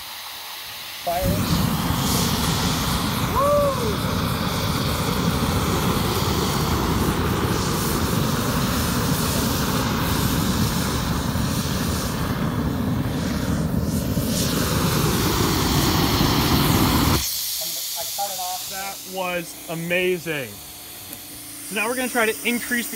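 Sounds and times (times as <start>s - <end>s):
rocket engine roaring: 1.0s - 22.9s.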